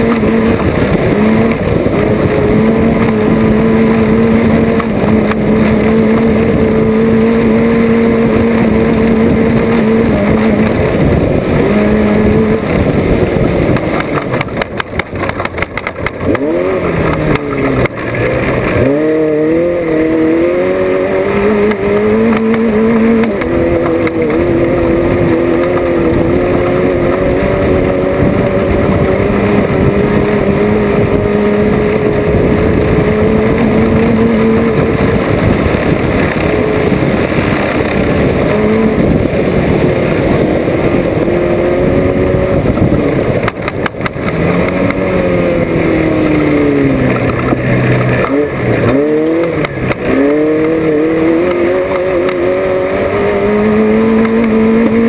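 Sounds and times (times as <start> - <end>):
race engine revving: 0.0 - 55.0
rumble of driving over rough ground: 0.0 - 55.0.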